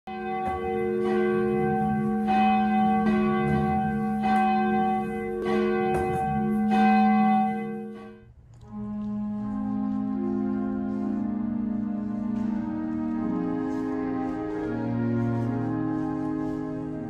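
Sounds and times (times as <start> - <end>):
church bells ringing: 0.1 - 17.0.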